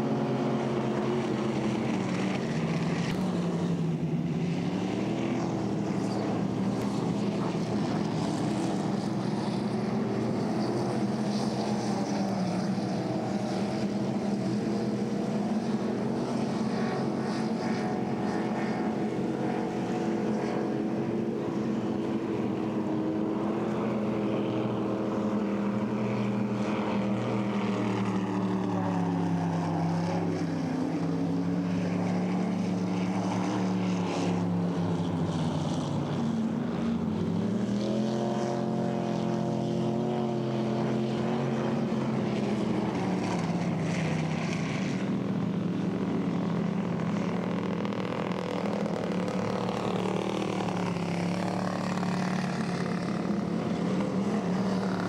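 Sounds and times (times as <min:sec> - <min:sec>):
racing boat engine running hard: 0:00.0 - 0:55.0.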